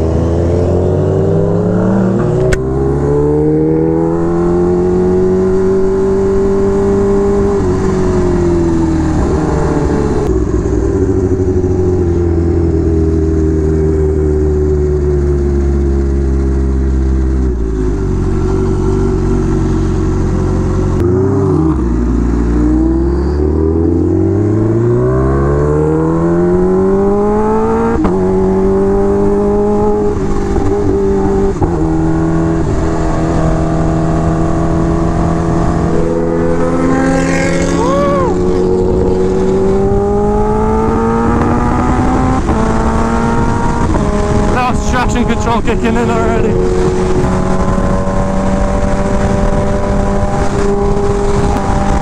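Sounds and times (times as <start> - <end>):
motorcycle engine revving: 0.0 - 52.0
road and wind noise: 0.0 - 52.0.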